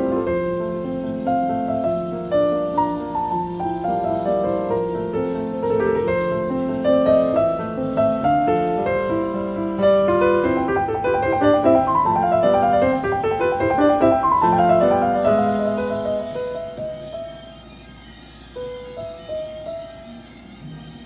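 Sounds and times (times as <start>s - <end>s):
piano music through tv speaker: 0.0s - 21.0s.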